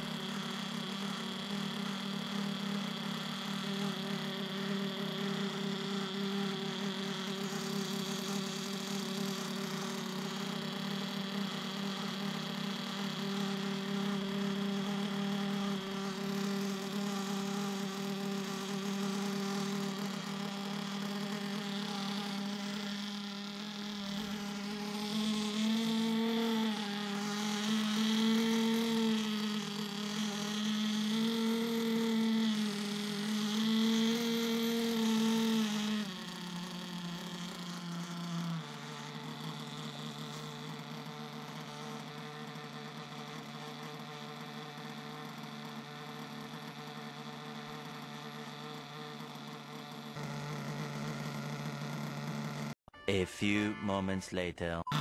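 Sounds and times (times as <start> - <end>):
small two-stroke engine running: 0.0 - 52.8.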